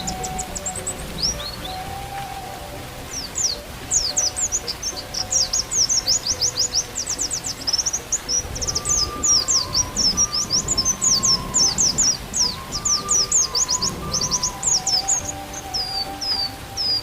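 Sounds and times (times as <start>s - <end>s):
bird chirping high and thin: 0.0s - 17.0s
faint held flute notes: 0.0s - 17.0s.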